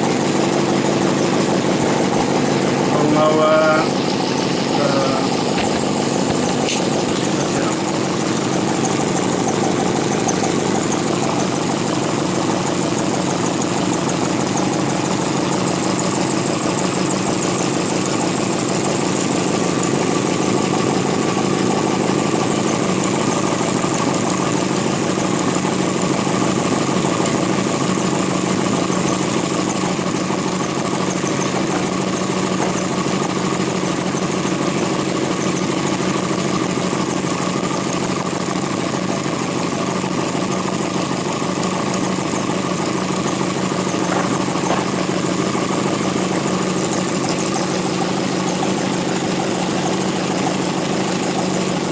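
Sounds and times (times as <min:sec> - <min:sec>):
model engine ticking: 0:00.0 - 0:51.9.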